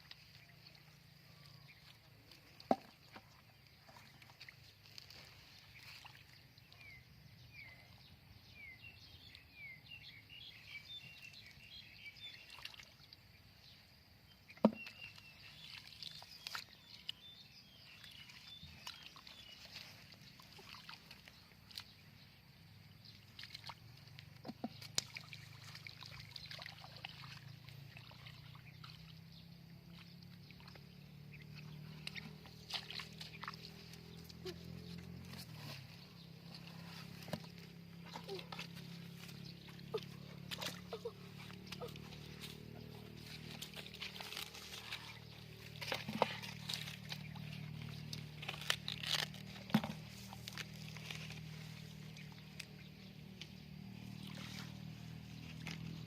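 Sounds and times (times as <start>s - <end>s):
water sloshing and splashing: 0.0s - 8.0s, 10.5s - 13.5s, 14.4s - 56.0s.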